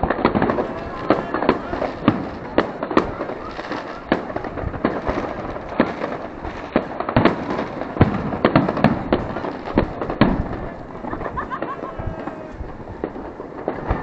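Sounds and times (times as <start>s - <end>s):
fireworks bangs and cracks: 0.0s - 14.0s.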